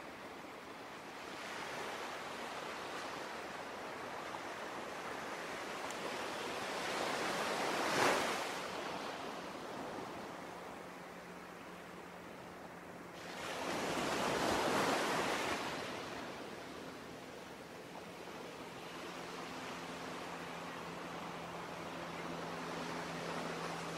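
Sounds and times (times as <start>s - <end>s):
ocean waves breaking: 1.2s - 23.9s.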